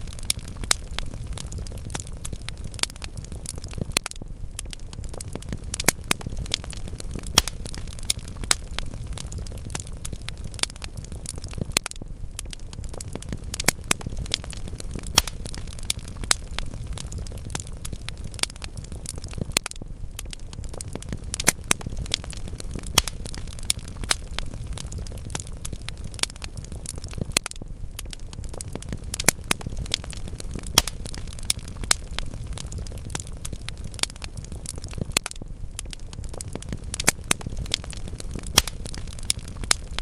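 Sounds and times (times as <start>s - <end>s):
low rumble of flames: 0.0s - 40.0s
wood fire crackling and popping: 0.0s - 40.0s.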